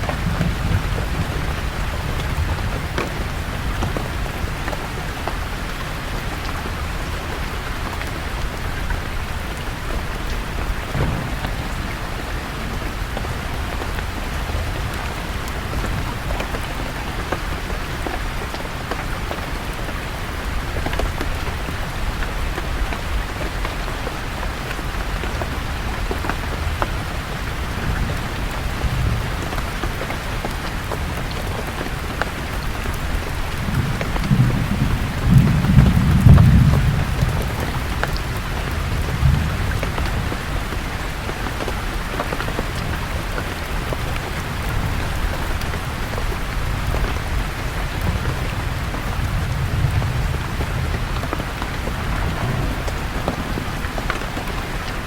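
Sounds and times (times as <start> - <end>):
thunder rumbling: 0.0 - 18.4, 19.2 - 55.0
rain falling on leaves: 0.0 - 55.0
raindrops ticking: 0.0 - 55.0.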